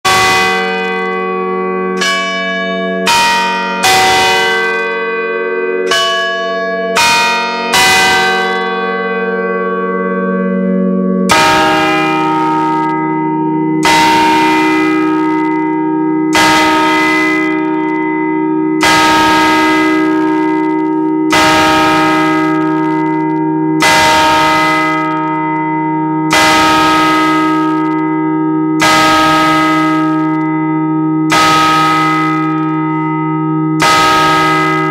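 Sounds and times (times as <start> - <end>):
church bell ringing: 0.0 - 34.9.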